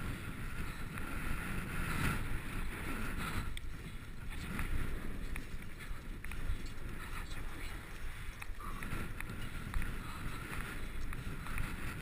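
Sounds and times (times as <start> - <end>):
bicycle rolling on pavement: 0.0 - 12.0
wind buffeting microphone: 0.0 - 12.0.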